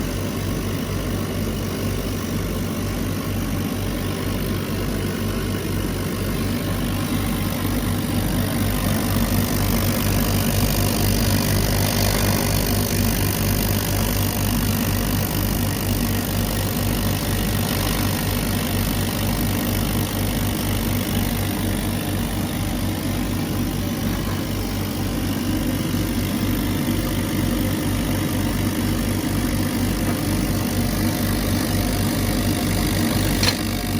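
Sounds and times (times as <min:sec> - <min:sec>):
laser cutter humming with pulse: 0:00.0 - 0:33.9.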